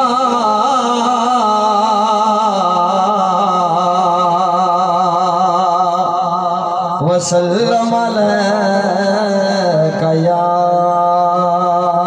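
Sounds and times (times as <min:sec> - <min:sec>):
man singing through loudspeakers: 0:00.0 - 0:12.0.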